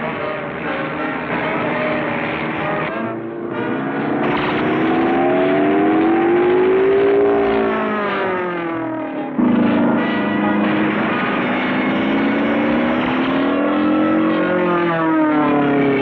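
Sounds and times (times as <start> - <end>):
cartoon propeller plane droning: 2.4 - 16.0.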